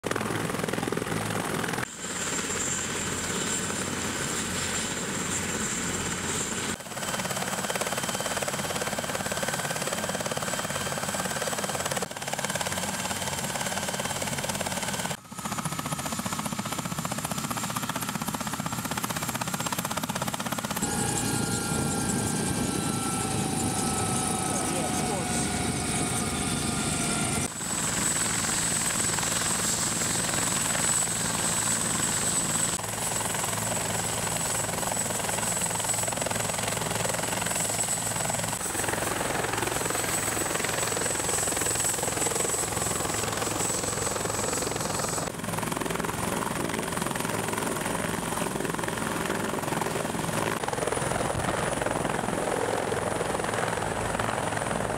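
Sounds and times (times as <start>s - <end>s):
helicopter rotor beating: 0.0s - 54.9s
helicopter turbine whine: 0.0s - 54.9s.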